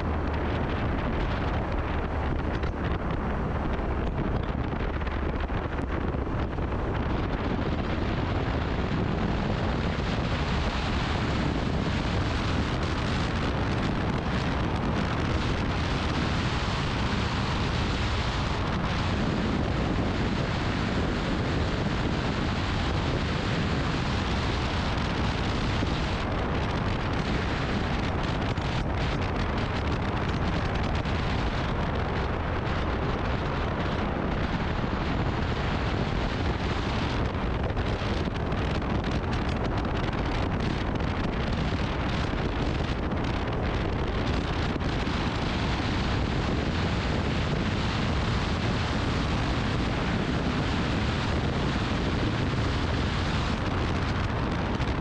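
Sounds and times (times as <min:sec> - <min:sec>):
motorcycle road and engine noise: 0:00.0 - 0:55.0
wind rushing over microphone: 0:00.0 - 0:55.0.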